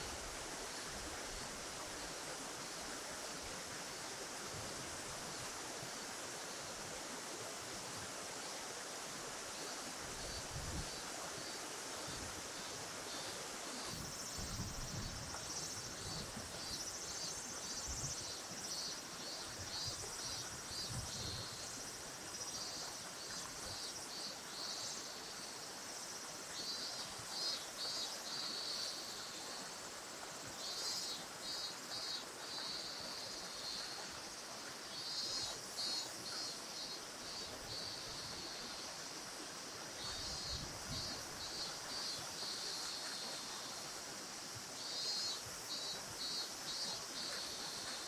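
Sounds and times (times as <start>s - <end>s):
insects chirping: 0.0s - 48.0s.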